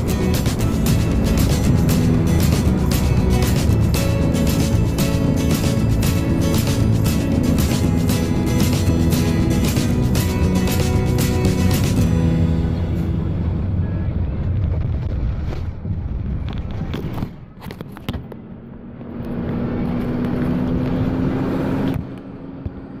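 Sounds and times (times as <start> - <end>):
road noise: 0.0 - 23.0
truck engine accelerating: 0.0 - 23.0.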